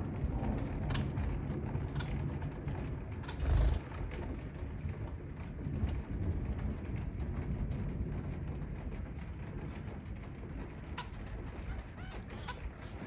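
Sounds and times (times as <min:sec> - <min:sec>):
rain: 0:00.0 - 0:13.0.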